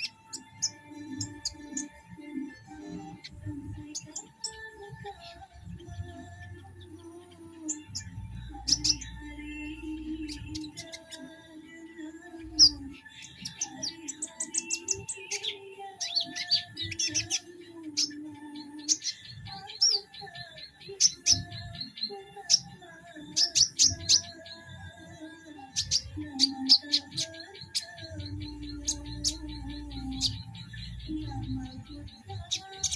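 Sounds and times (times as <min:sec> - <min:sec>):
songbird chirping and trilling: 0:00.0 - 0:32.9.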